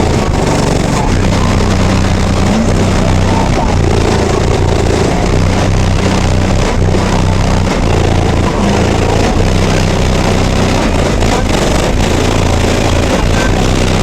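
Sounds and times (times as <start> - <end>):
distorted subwoofer bass: 0.0 - 14.0.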